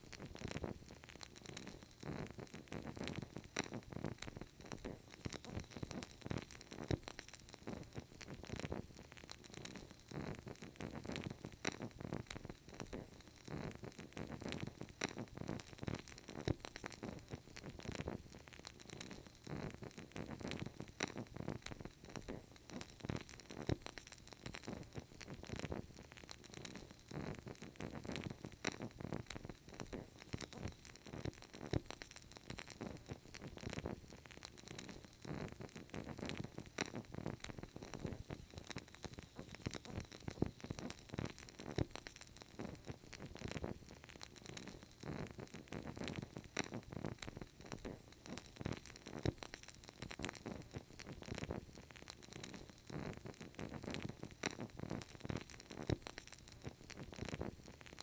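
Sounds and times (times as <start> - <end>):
candle crackling: 0.0 - 58.0
faint hiss: 0.0 - 58.0.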